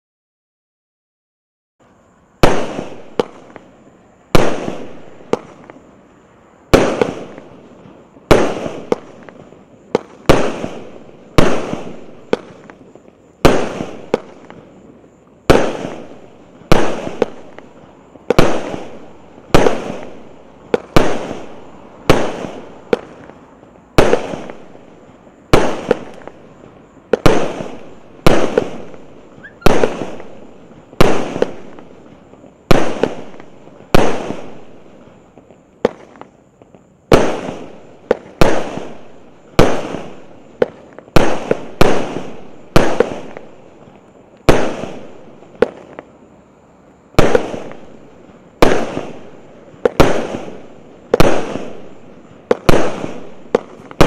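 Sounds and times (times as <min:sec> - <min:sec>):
fireworks cake firing: 0:02.4 - 0:54.0.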